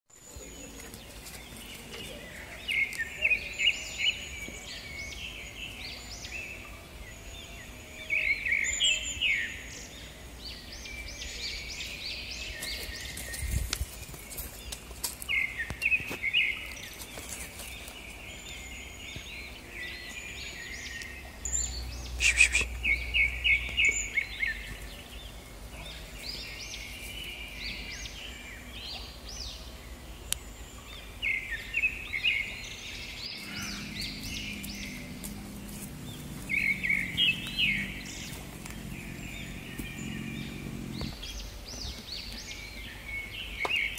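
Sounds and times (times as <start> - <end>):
outdoor background noise: 0.1 - 43.9
small birds chirping: 0.1 - 43.9.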